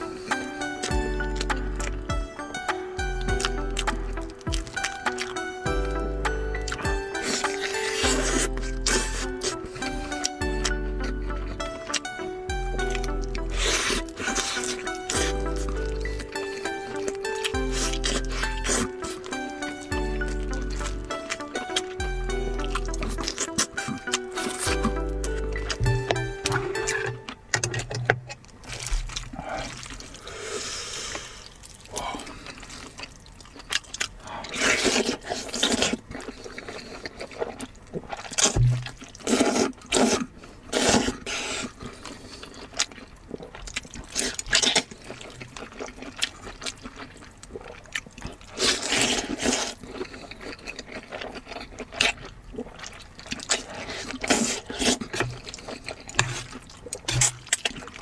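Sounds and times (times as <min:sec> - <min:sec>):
person chewing and slurping: 0:00.0 - 0:58.0.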